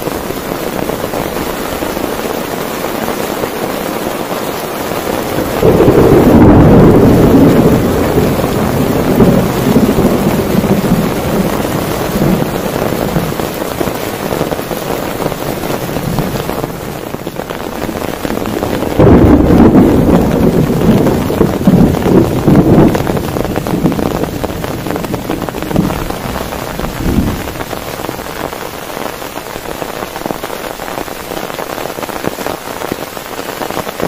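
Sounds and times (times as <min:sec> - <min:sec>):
heavy rain downpour: 0:00.0 - 0:34.0
thunder rumbling: 0:00.1 - 0:32.4.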